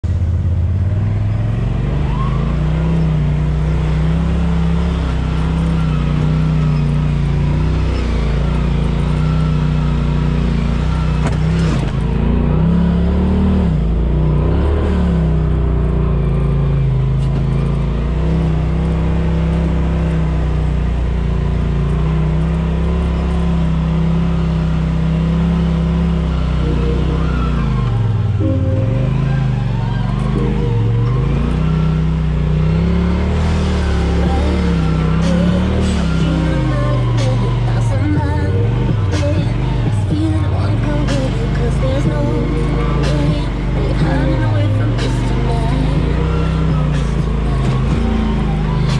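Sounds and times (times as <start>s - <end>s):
vehicle engine running at low revs: 0.0s - 48.9s.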